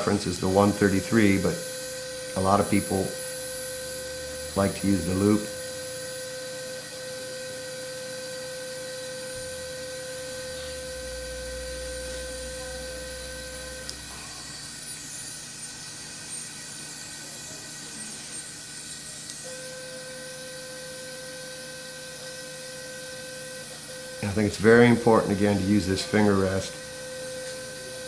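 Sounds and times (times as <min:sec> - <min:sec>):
electrosurgery activation tone: 0:00.0 - 0:28.0.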